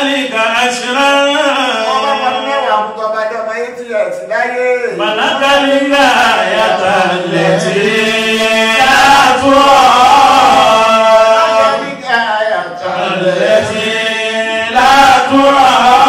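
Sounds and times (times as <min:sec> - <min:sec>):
man chanting a sermon: 0:00.0 - 0:16.0.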